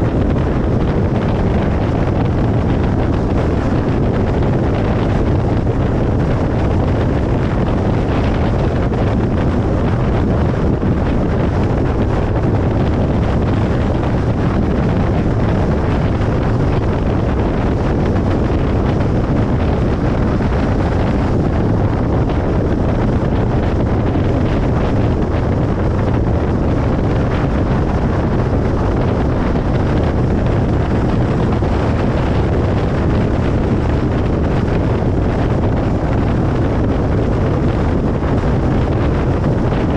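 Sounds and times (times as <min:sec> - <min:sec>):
car road noise on highway: 0:00.0 - 0:39.9.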